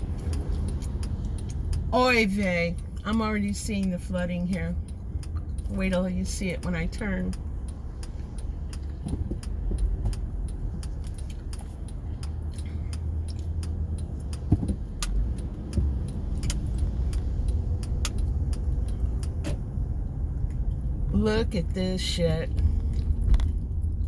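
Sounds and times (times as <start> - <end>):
light clicks and ticks: 0.0 - 21.6, 22.4 - 24.0
engine and road rumble: 0.0 - 24.0.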